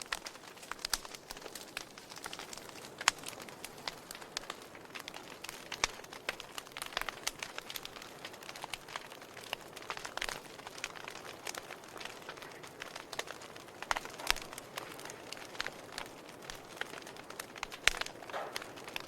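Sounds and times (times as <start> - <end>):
logs crackling in fireplace: 0.0 - 19.0
soft steady hiss: 0.0 - 19.0.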